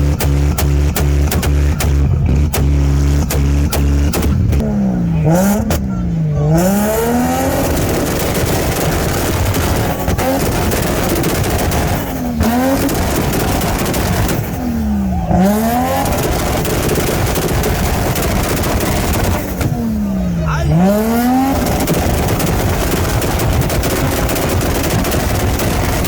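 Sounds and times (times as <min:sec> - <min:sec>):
sharp cracks: 0:00.0 - 0:04.7, 0:07.0 - 0:20.0, 0:20.8 - 0:26.0
car engines running hard: 0:00.0 - 0:26.0
constant rushing noise: 0:00.0 - 0:26.0.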